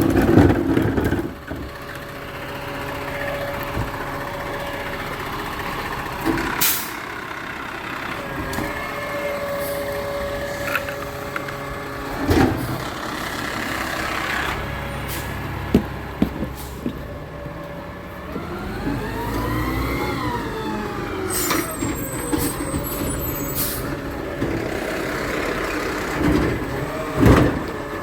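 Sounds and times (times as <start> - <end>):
garbage truck diesel engine: 0.0 - 28.0.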